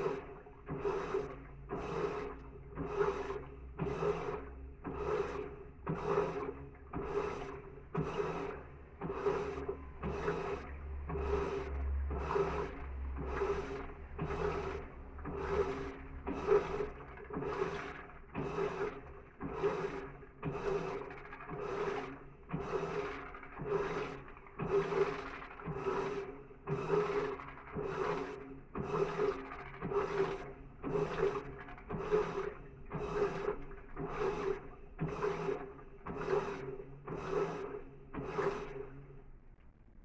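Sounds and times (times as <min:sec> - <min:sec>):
washing machine water swishing: 0:00.0 - 0:39.0
low motor hum: 0:00.0 - 0:39.2.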